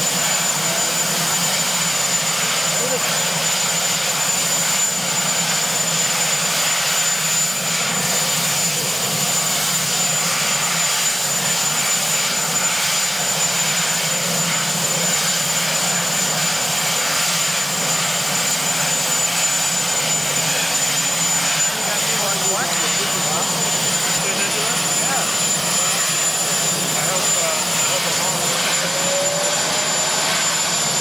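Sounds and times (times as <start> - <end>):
helicopter engine and rotor: 0.0 - 31.0
high turbine whine: 0.0 - 31.0.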